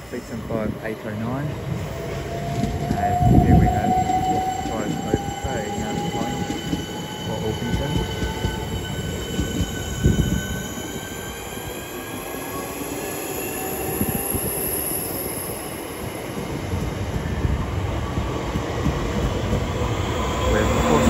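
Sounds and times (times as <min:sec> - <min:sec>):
electric train whining: 0:00.0 - 0:21.0
train low rumble: 0:00.0 - 0:21.0.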